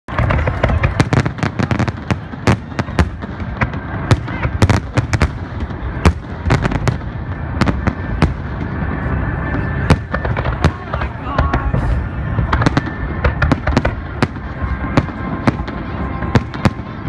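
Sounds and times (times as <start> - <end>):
continuous low rumble: 0.1 - 17.0
fireworks bangs: 0.1 - 17.0.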